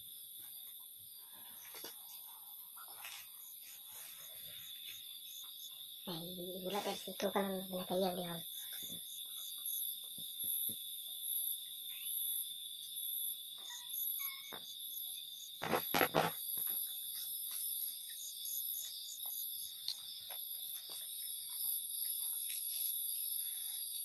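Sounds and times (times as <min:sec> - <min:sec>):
crickets and insects trilling: 0:00.0 - 0:24.0.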